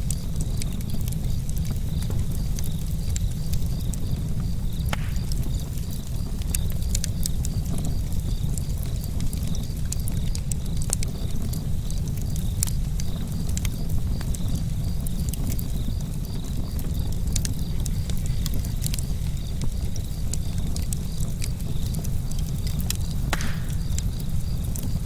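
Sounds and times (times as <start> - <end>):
campfire crackling and popping: 0.0 - 25.0
fire low rumble: 0.0 - 25.0.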